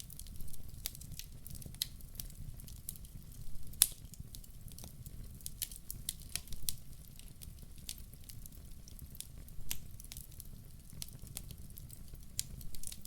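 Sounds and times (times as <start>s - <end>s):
fireplace fire crackling: 0.0s - 13.0s
low rumble of flames: 0.0s - 13.0s
sharp pops of fire: 0.1s - 13.0s.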